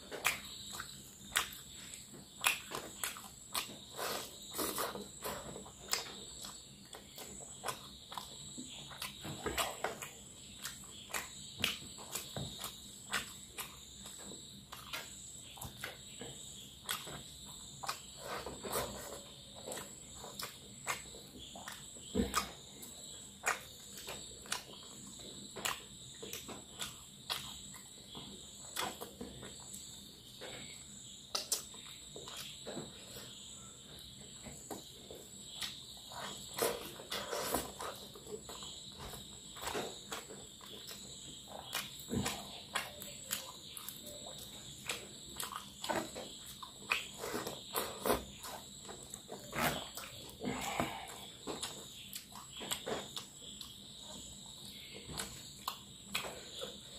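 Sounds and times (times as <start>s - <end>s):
insect trill: 0.0s - 56.9s
wet chewing and finger squelches: 0.1s - 32.8s, 34.6s - 56.9s.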